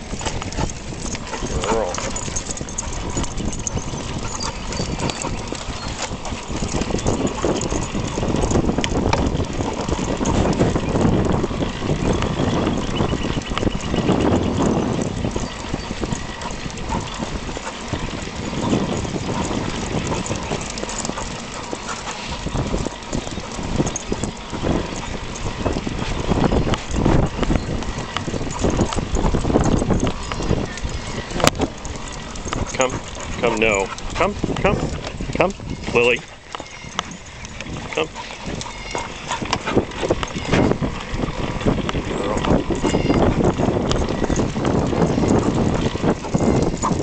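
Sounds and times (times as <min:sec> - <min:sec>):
bicycle rolling noise: 0:00.0 - 0:47.0
scattered clicks: 0:00.0 - 0:47.0
wind buffeting microphone: 0:00.0 - 0:47.0.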